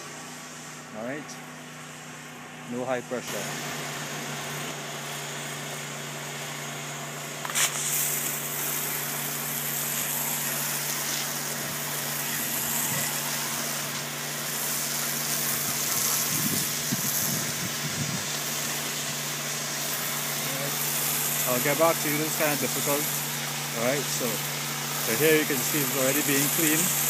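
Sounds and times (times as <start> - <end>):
spray jet hissing on boards: 3.3 - 27.0.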